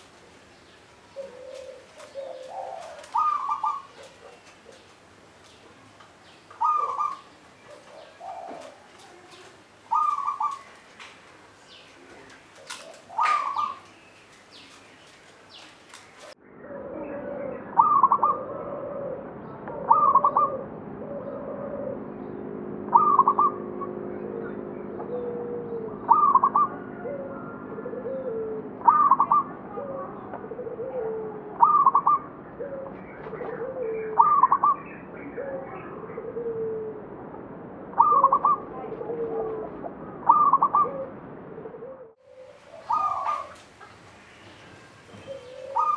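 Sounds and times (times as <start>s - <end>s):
steady low hum: 0.0s - 45.7s
dove cooing: 1.1s - 5.0s, 6.5s - 10.8s, 11.6s - 14.9s, 16.0s - 22.2s, 22.8s - 37.1s, 37.9s - 45.9s.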